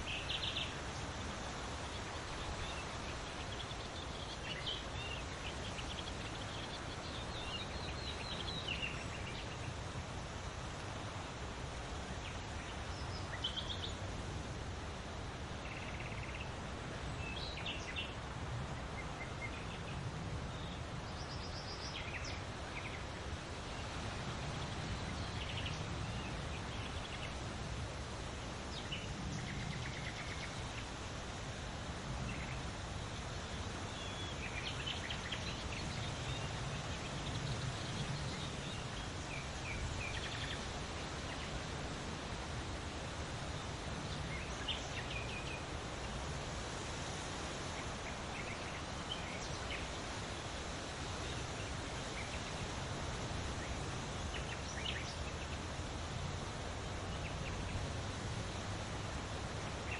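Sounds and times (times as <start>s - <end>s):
small birds chirping: 0.0s - 14.2s, 15.0s - 59.9s
outdoor background hiss: 0.0s - 59.9s.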